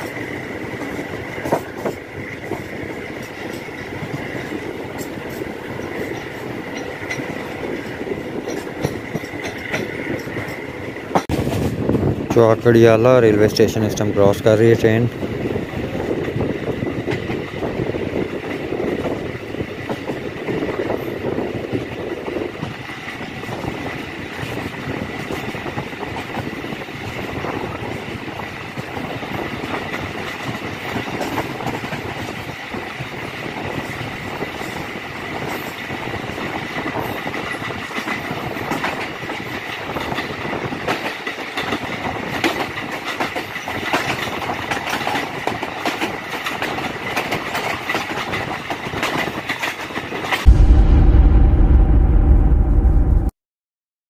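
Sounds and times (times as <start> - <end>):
train wheels rumbling on rails: 0.0 - 53.3.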